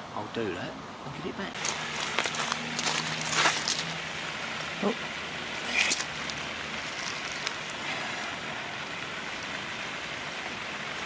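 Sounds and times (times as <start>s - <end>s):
water sloshing and trickling: 1.6s - 11.0s.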